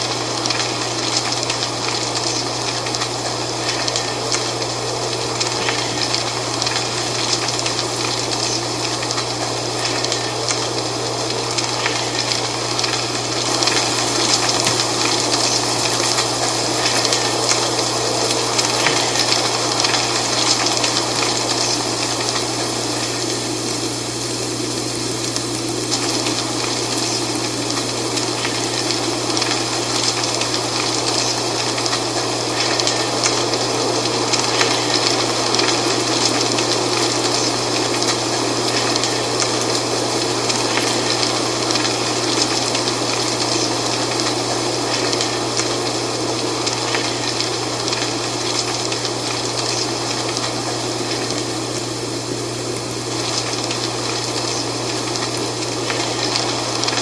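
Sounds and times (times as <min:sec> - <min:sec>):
wind rustling dry leaves: 0:00.0 - 0:57.0.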